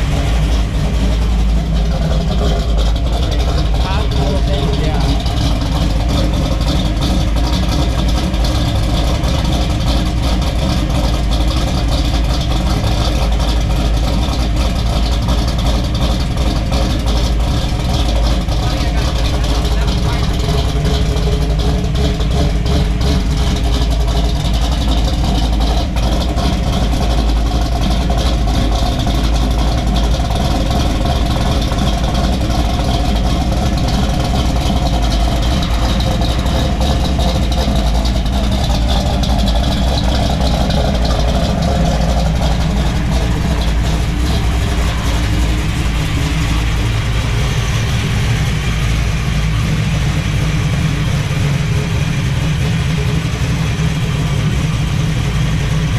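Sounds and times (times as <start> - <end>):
car exhaust deep rumble: 0.0 - 55.9.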